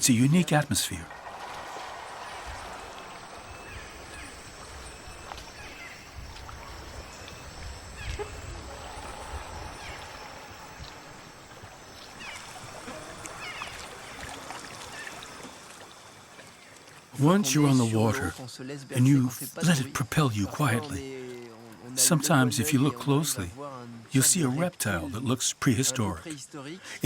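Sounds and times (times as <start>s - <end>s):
high insect hum: 0.0s - 27.0s.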